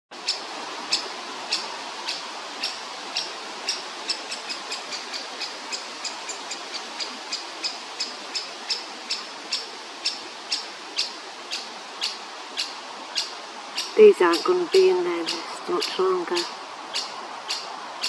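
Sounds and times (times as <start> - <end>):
steady hiss: 0.2 - 18.0
bird chick begging calls: 0.9 - 17.7.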